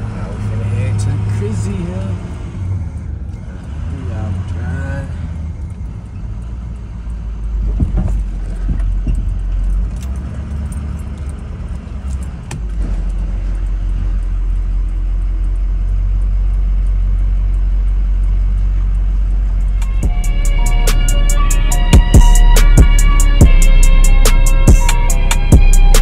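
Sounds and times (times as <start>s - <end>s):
pickup engine and road rumble: 0.0s - 26.0s.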